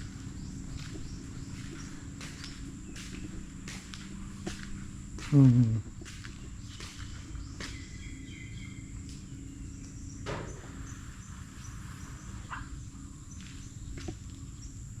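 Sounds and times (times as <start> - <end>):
insects droning: 0.0 - 15.0
low steady hum: 0.0 - 15.0.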